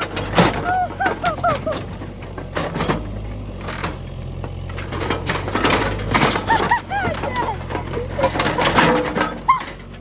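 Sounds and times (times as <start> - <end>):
excavator engine running: 0.0 - 10.0.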